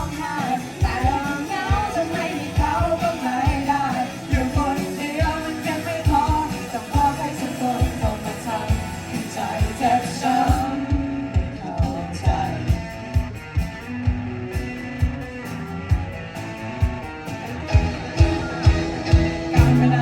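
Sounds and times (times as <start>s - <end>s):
live rock band instrumental: 0.0s - 20.0s.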